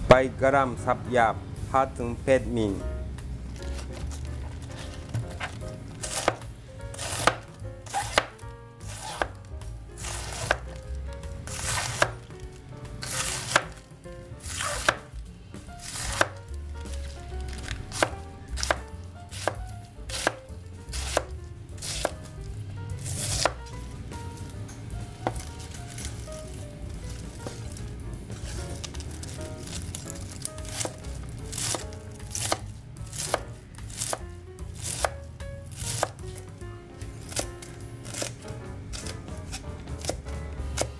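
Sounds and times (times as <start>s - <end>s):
knife chopping cabbage on board: 3.6s - 12.4s, 13.0s - 13.8s, 14.4s - 22.3s, 23.0s - 23.8s, 25.2s - 36.5s, 37.1s - 40.9s.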